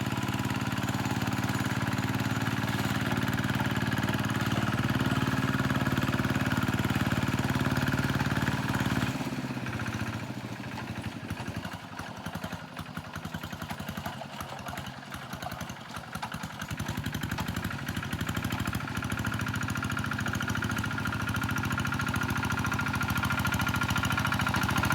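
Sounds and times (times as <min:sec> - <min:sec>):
tractor engine running: 0:00.0 - 0:24.9.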